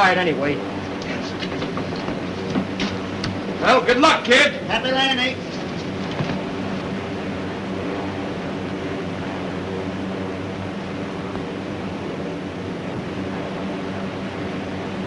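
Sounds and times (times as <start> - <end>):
airship engines droning: 0.0 - 15.0
constant hiss: 0.0 - 15.0.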